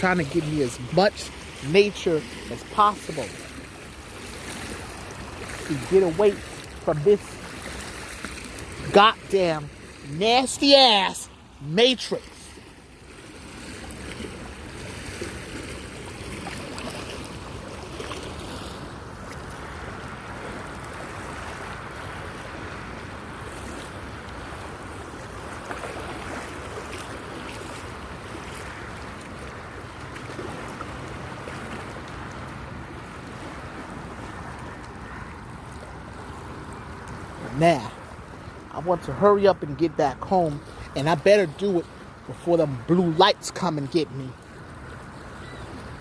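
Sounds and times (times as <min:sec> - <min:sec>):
lake water lapping at shore: 0:00.0 - 0:46.0.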